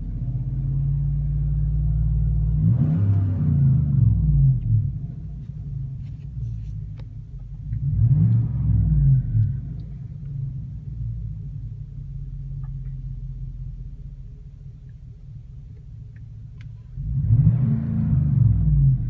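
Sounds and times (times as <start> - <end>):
truck engine revving and idling: 0.0 - 14.1, 16.5 - 19.0.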